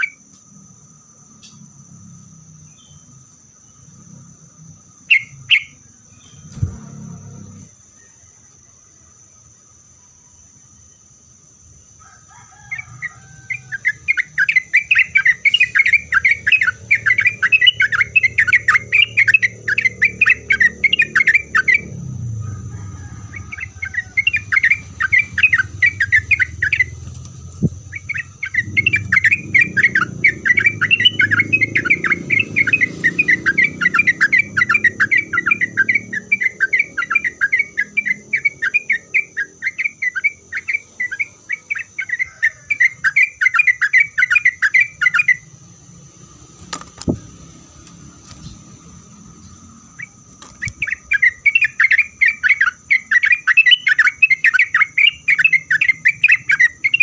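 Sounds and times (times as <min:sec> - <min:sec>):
bird singing chattering song: 0:00.0 - 0:00.6, 0:01.3 - 0:08.8, 0:12.6 - 0:57.0.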